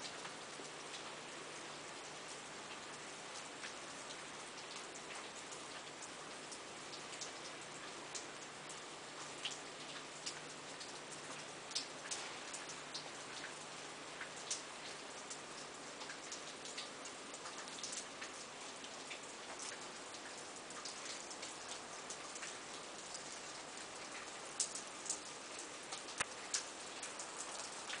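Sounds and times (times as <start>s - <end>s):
dripping patter: 0.0s - 28.0s.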